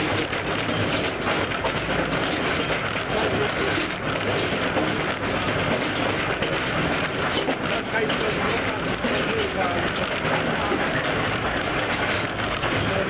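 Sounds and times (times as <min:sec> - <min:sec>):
mine railcar rattling: 0:00.0 - 0:13.0.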